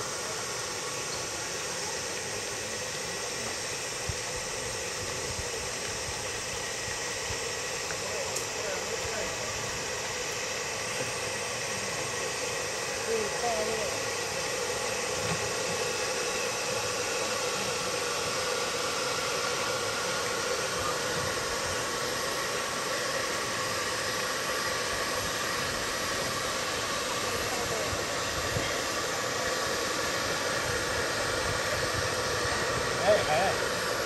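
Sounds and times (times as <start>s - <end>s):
model steam engines running: 0.0s - 34.0s.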